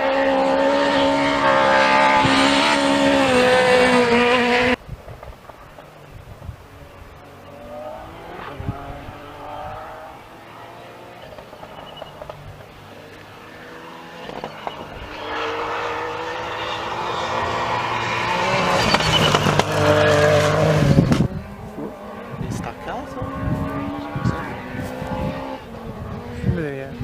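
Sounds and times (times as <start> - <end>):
rally car engine revving: 0.0 - 4.8, 6.8 - 27.0.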